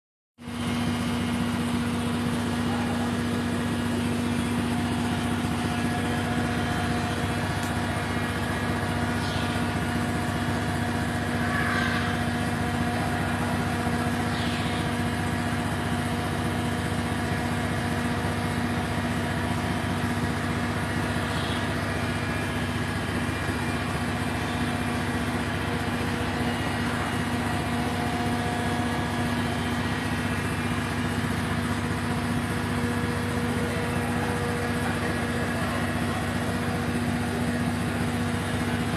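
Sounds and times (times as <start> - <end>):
machine humming: 0.4 - 38.9.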